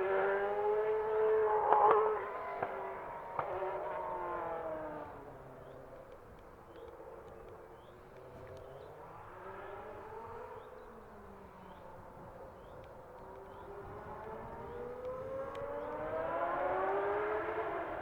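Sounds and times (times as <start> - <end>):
distant racing car engine: 0.0 - 18.0.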